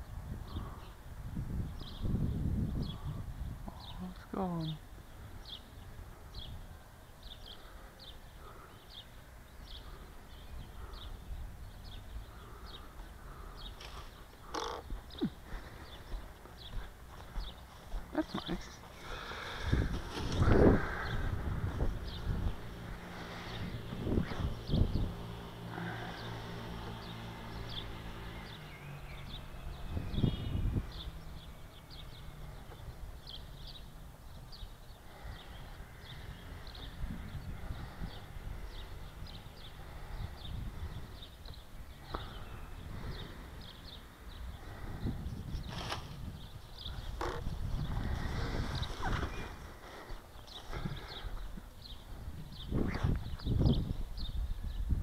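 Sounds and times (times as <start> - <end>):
low wind rumble: 0.0 - 55.0
songbirds chirping: 0.0 - 55.0.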